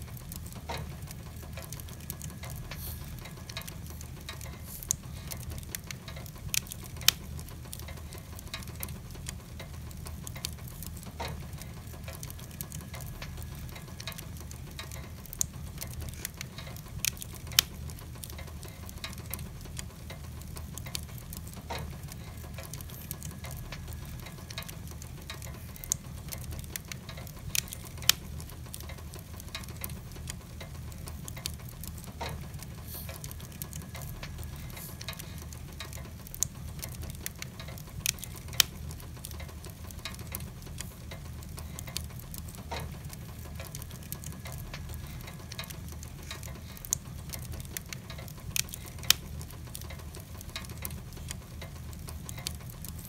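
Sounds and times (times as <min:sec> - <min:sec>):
fire crackling and popping: 0:00.0 - 0:53.0
rain patter: 0:00.0 - 0:53.0.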